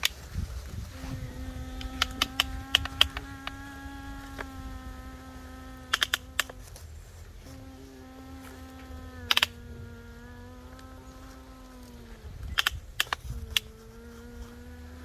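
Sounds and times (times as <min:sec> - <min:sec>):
sharp clicks: 0:00.0 - 0:07.4, 0:08.3 - 0:09.9, 0:10.6 - 0:14.7
small electric motor humming: 0:00.0 - 0:15.0.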